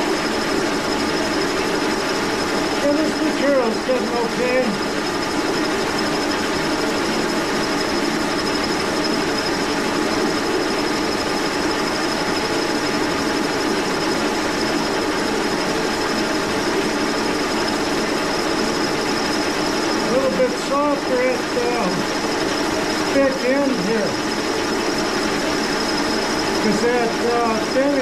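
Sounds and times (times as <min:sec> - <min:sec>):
thin high whine: 0:00.0 - 0:28.0
milling machine cutting cast iron: 0:01.6 - 0:28.0.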